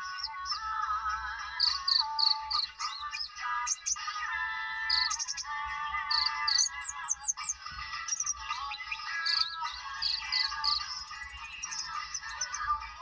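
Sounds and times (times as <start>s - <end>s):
bird warbling and chirping: 0.0s - 0.8s, 1.6s - 13.0s.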